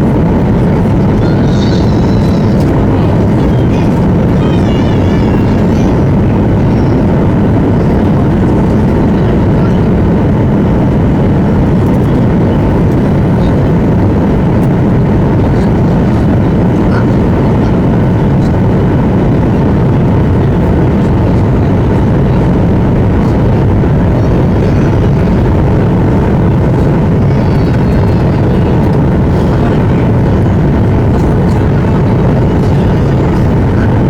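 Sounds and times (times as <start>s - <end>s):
airflow over fuselage: 0.0s - 34.0s
jet engine roar in cabin: 0.0s - 34.0s.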